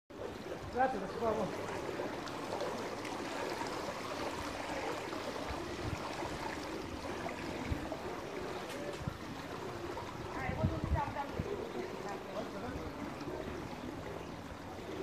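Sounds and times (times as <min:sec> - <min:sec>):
water running into gutter: 0:00.1 - 0:15.0.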